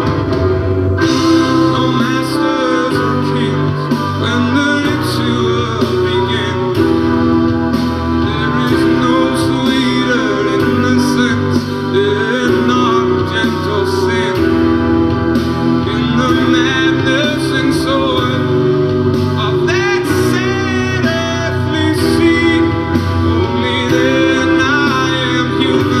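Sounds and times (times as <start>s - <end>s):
instrumental backing: 0.0s - 26.0s
person singing: 0.0s - 26.0s.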